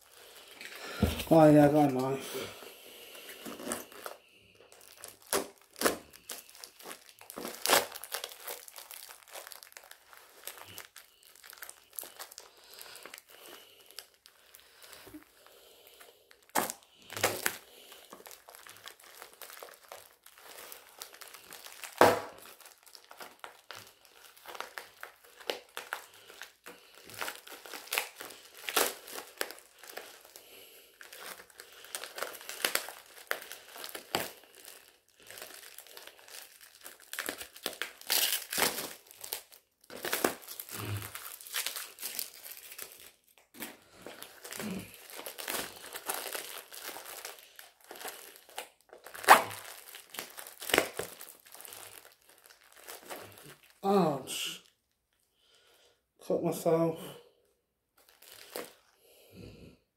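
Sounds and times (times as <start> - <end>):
plastic packaging crinkling and tearing: 0.0 - 54.9, 58.0 - 59.0.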